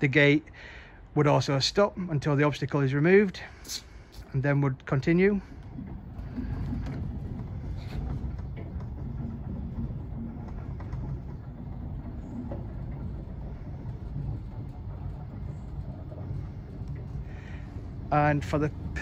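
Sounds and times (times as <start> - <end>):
sliding gate motor rumbling: 3.5 - 19.0.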